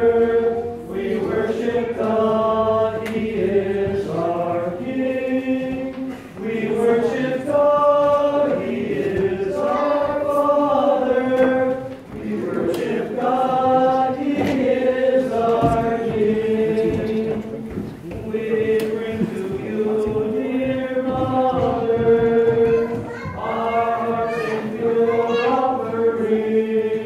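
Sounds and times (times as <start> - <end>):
group singing liturgical chant: 0.0 - 27.0.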